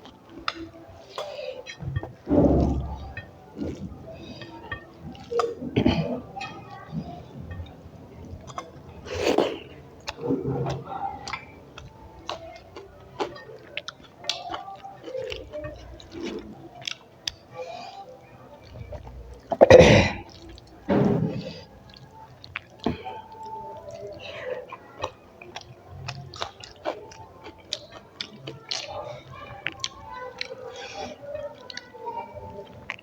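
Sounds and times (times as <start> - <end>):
chewing and mouth sounds: 0.0 - 33.0.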